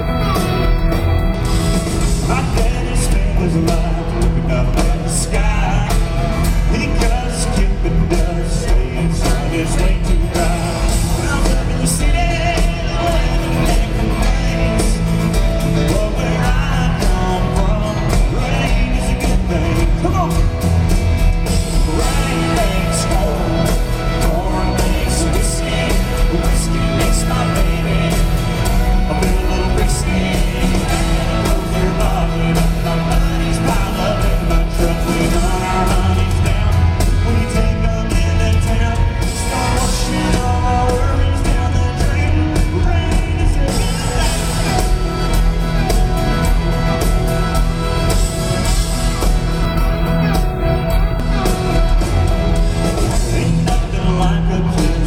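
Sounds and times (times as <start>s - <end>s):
live country band playing: 0.0s - 55.0s
person singing: 0.0s - 55.0s.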